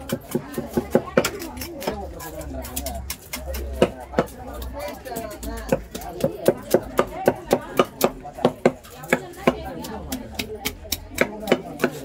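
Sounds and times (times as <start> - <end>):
knife chopping fish on wood: 0.0 - 12.0.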